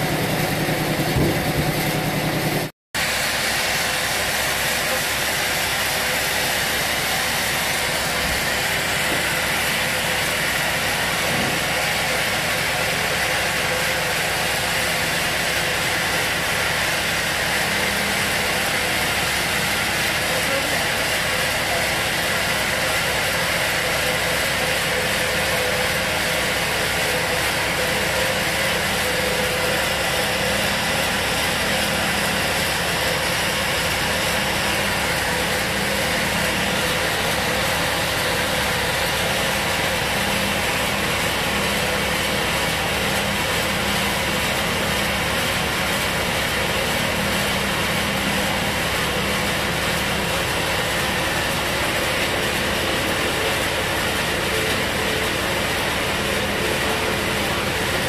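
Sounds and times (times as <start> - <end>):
band saw machine drone: 0.0 - 58.0.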